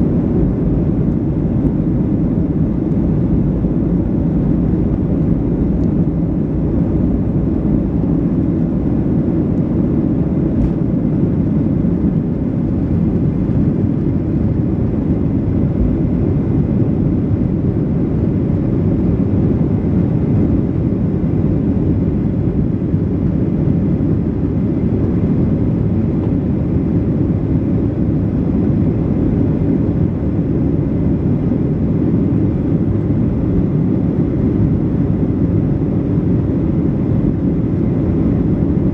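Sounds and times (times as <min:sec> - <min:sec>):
jet engines rumbling at takeoff: 0:00.0 - 0:38.9.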